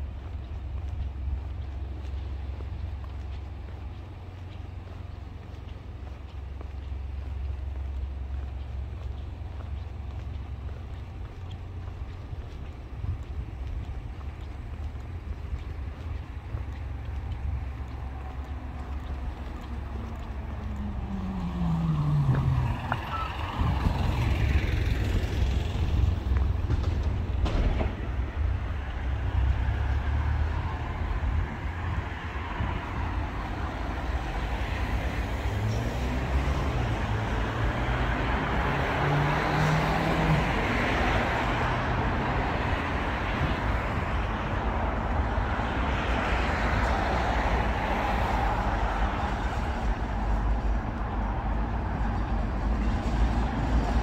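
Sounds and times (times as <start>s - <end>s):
engine rumble of passing vehicles: 0.0s - 54.0s.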